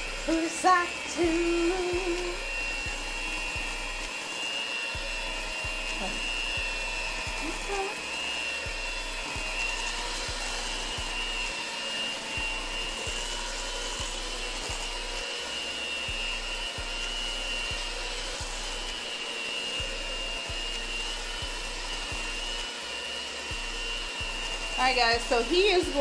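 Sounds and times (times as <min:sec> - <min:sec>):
electric mixer whining: 0:00.0 - 0:26.0.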